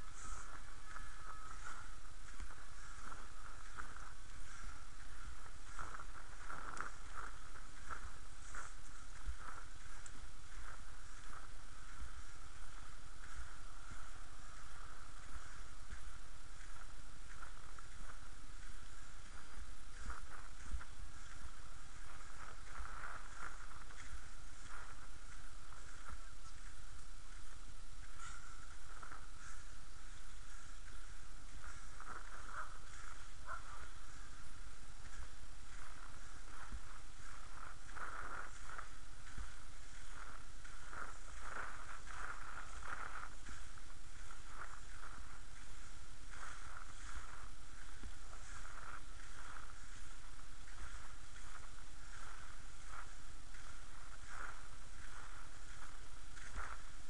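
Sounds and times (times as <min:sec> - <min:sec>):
skate wheels rolling on wet asphalt: 0:00.0 - 0:57.0
wind rumble on microphone: 0:00.0 - 0:57.0.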